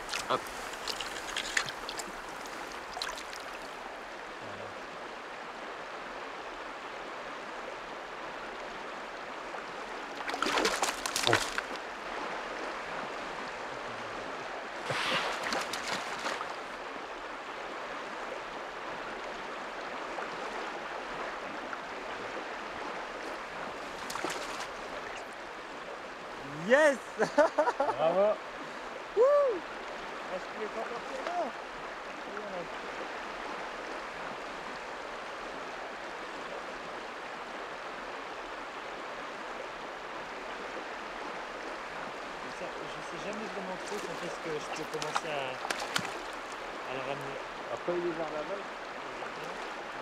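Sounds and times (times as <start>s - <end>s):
river water rushing over rocks: 0.0s - 26.8s, 28.7s - 50.0s.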